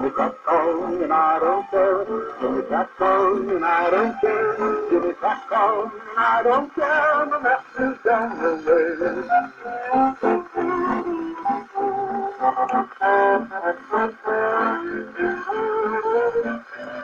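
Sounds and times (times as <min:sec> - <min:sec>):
old record music on phonograph: 0:00.0 - 0:17.0.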